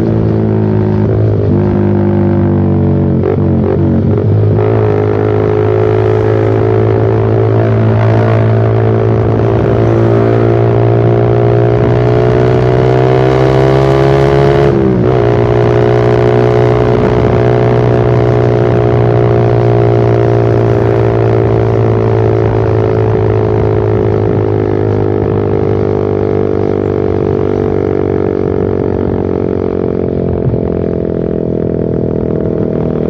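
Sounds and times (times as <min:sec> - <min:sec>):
motorcycle exhaust at steady revs: 0:00.0 - 0:33.0.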